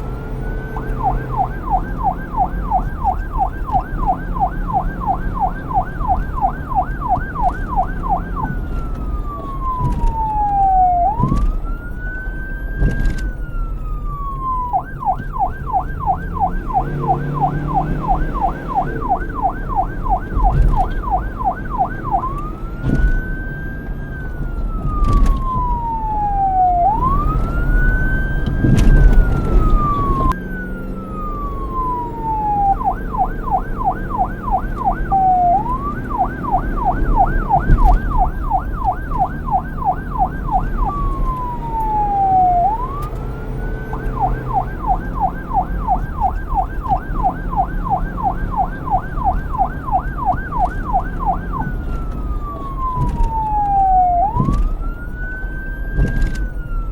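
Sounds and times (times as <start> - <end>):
police siren wailing and yelping: 0.0 - 56.9.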